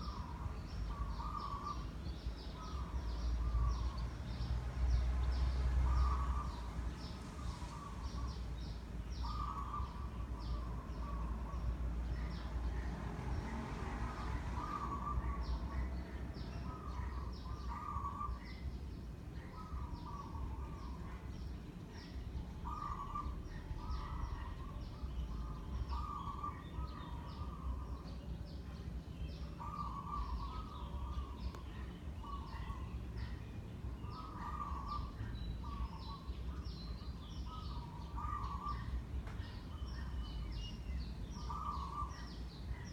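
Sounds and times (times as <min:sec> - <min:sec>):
birds calling: 0:00.0 - 0:42.9.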